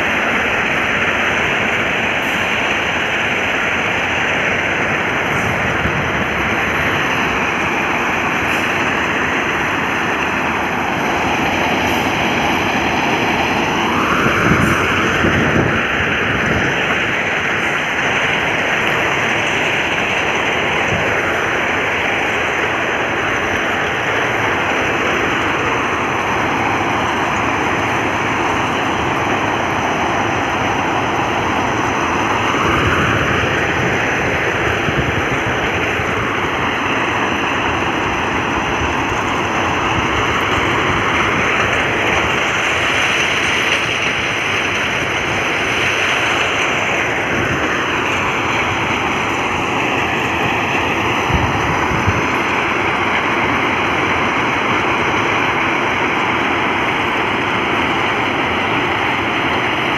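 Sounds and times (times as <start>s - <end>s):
dense mechanical machine noise: 0.0s - 59.9s.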